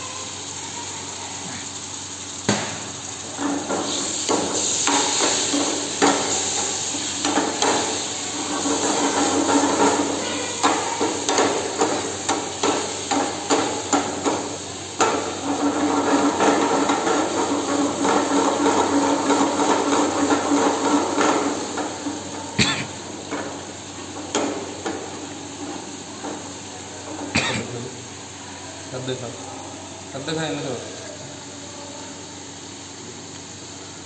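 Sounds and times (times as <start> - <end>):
food sizzling: 0.0 - 34.0.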